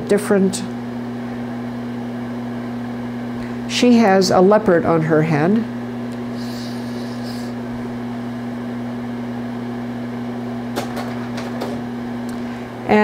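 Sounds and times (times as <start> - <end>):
projector cooling fan humming: 0.0 - 13.0.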